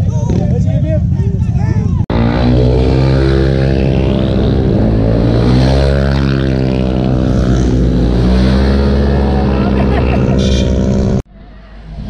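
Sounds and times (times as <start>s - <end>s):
scooter engine humming: 0.0s - 12.0s.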